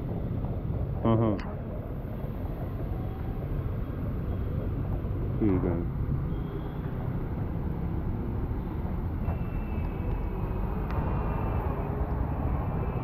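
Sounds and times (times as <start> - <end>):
traffic passing on wet road: 0.0 - 13.0.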